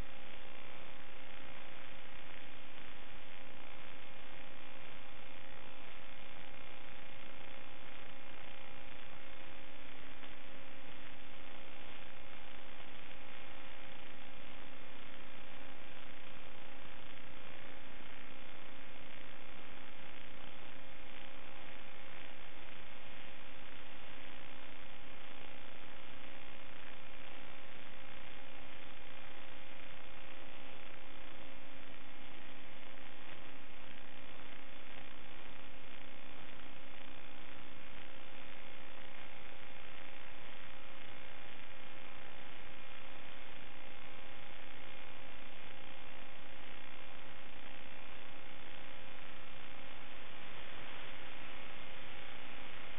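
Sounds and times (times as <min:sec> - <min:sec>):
electrical hum: 0:00.0 - 0:52.9
steady hiss: 0:00.0 - 0:52.9.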